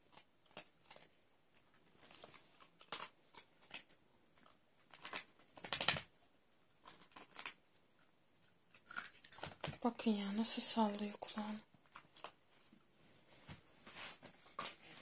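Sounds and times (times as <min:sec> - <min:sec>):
dog crunching dry kibble: 0:00.0 - 0:12.8.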